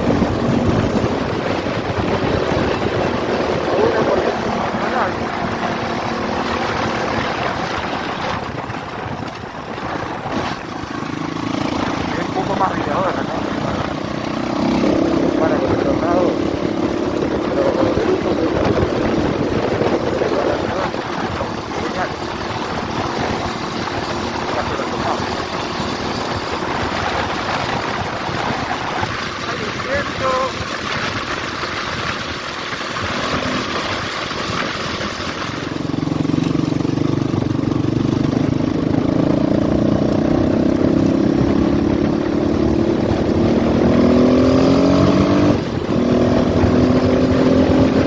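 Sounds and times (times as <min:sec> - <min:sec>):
continuous rushing noise: 0:00.0 - 0:48.0
motorcycle engine running: 0:00.0 - 0:48.0.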